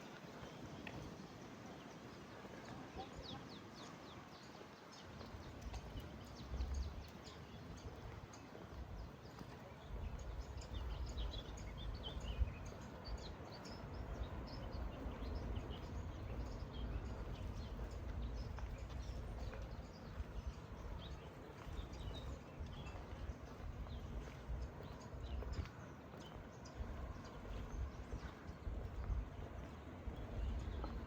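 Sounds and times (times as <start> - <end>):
small birds chirping: 0.0 - 31.0
low outdoor rumble: 5.2 - 31.0.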